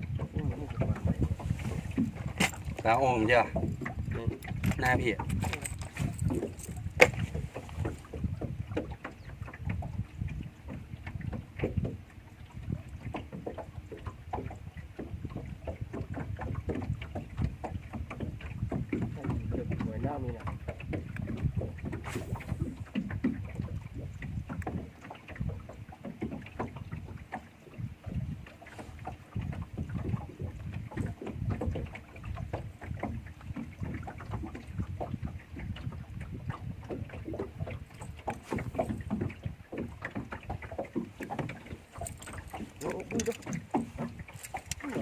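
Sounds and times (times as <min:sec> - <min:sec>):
waves slapping against boat hull: 0:00.0 - 0:45.0.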